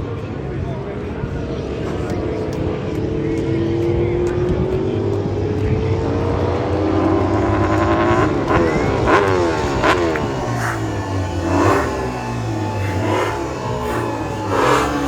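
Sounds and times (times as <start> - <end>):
racing motorcycles passing by: 1.5 - 15.0.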